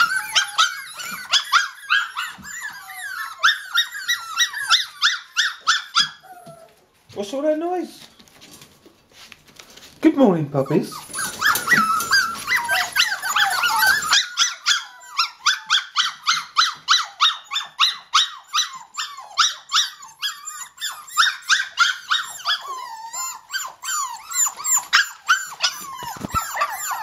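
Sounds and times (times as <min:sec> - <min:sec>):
puppies yapping and whining: 0:00.0 - 0:07.0, 0:10.6 - 0:27.0.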